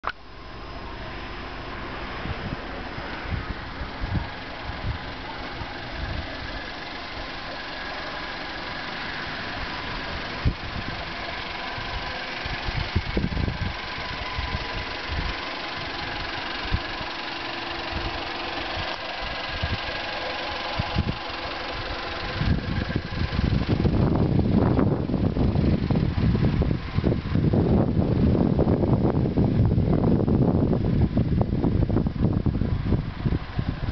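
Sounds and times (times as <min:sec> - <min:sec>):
car engine idling: 0:00.0 - 0:33.9
wind rumble on microphone: 0:01.6 - 0:07.9, 0:08.8 - 0:17.1, 0:17.8 - 0:33.9.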